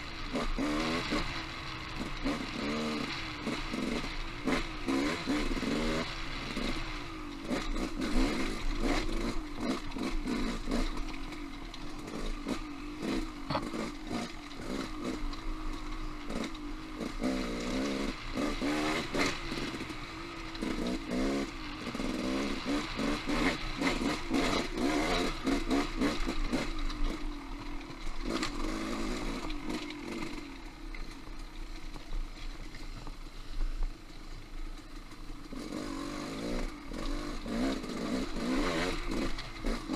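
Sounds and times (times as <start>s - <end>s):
motorcycle engine revving: 0.0s - 32.2s, 34.6s - 39.9s.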